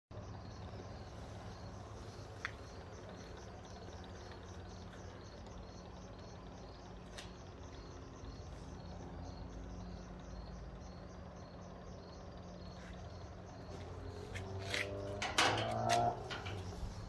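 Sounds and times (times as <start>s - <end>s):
crickets chirping: 0.1s - 17.0s.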